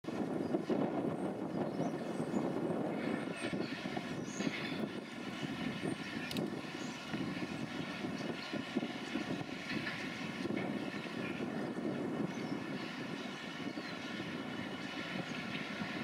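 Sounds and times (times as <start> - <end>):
distant diesel locomotive rumble: 0.0 - 16.0.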